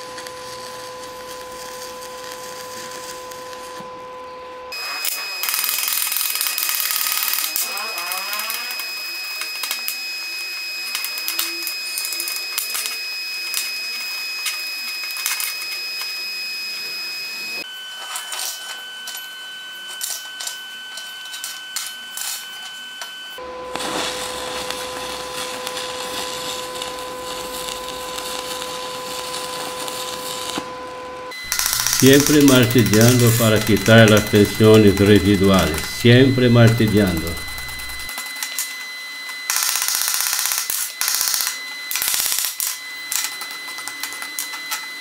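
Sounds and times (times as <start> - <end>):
welding arc crackling hiss: 0.0 - 3.9, 4.7 - 16.1, 20.0 - 22.8, 23.4 - 38.8, 39.5 - 44.8
thin steady whine: 0.0 - 45.0.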